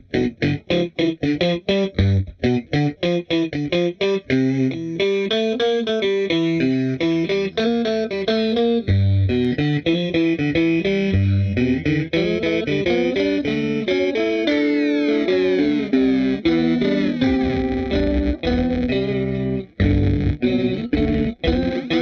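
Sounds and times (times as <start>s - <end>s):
electric guitar with pitch-shifter: 0.0s - 22.0s.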